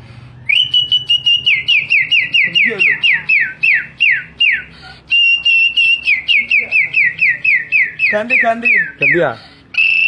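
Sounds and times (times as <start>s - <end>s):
boy whistling birdsong imitation: 0.4s - 10.0s.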